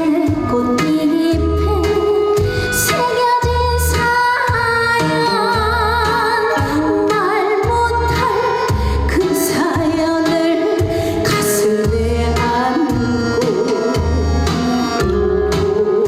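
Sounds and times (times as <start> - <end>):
backing track with bass drum: 0.0 - 16.0
woman singing: 0.0 - 16.0.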